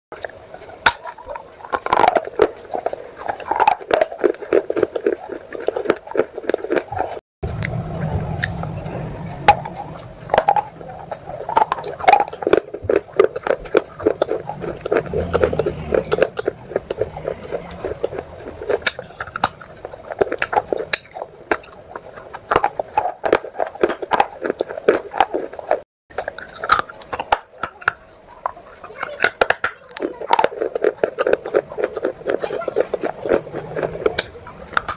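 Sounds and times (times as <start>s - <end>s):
close chewing with moist crunches: 0.2s - 34.9s.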